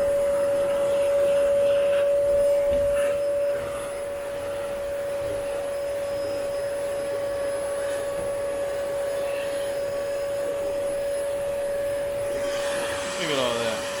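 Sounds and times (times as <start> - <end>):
vacuum cleaner humming: 0.0 - 14.0.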